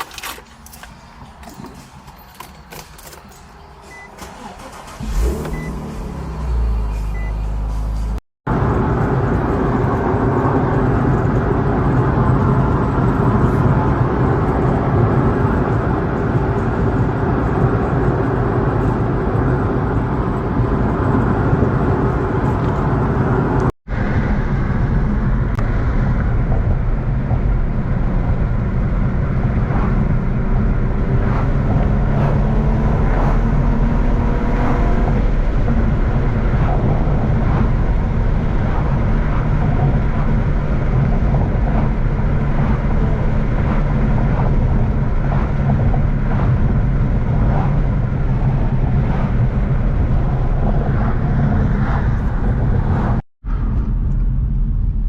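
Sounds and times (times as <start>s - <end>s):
car engine rumbling: 0.0s - 55.0s
road noise: 0.0s - 55.0s.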